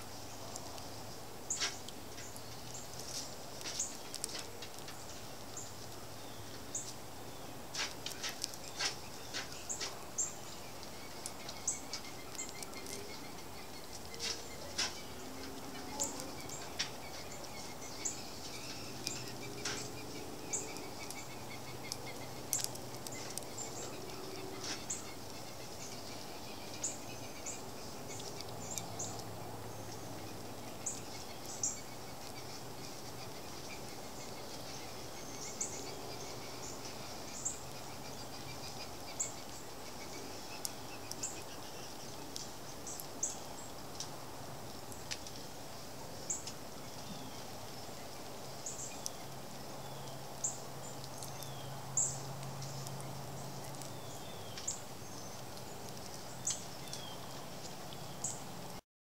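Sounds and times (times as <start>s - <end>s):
outdoor background hiss: 0.0s - 58.8s.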